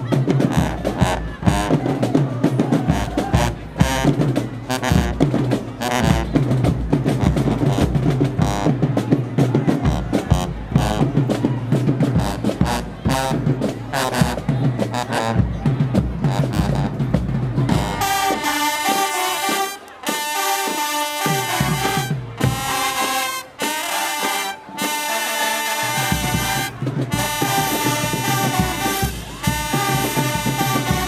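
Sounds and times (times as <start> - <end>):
brass horns chords: 0.0 - 2.1, 2.7 - 9.1, 9.7 - 11.4, 12.0 - 31.0
marching drums: 0.0 - 31.0.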